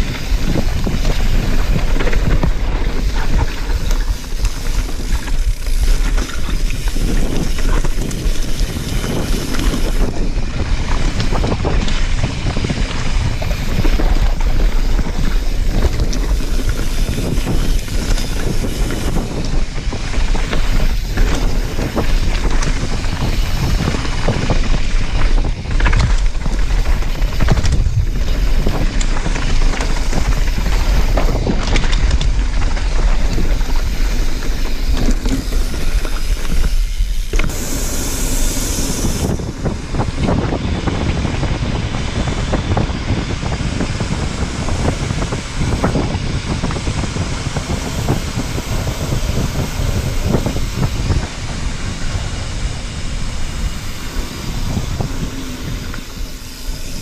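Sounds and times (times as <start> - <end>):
bike knocks and rattles: 0.0 - 57.0
bike tyres rolling on dirt: 0.0 - 57.0
wind buffeting microphone: 0.0 - 57.0.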